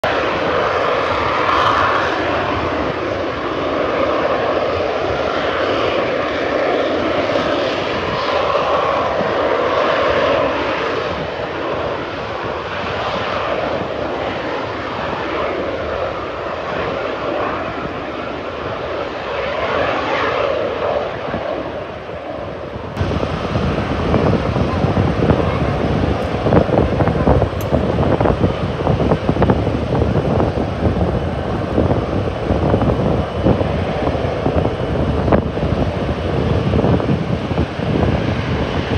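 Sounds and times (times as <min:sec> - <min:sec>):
jet engines at takeoff power: 0:00.0 - 0:38.9.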